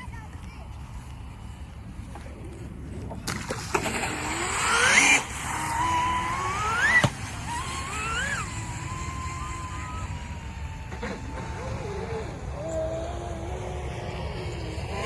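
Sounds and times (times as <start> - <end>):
electric motor whining: 2.0 - 15.0.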